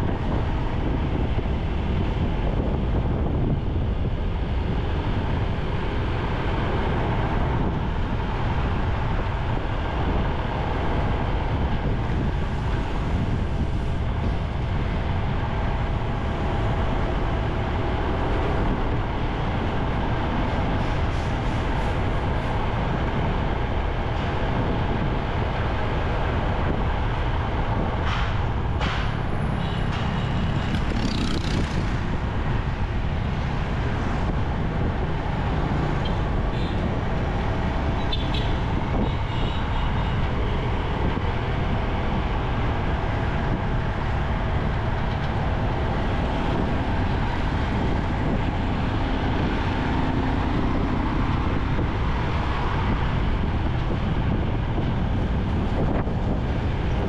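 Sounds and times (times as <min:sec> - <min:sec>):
motorcycle engine and road rumble: 0:00.0 - 0:57.0.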